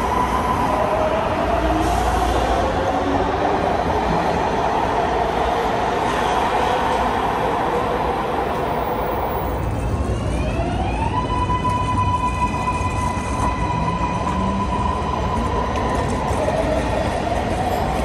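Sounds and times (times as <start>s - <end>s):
train wheel and track rumble: 0.0s - 18.0s.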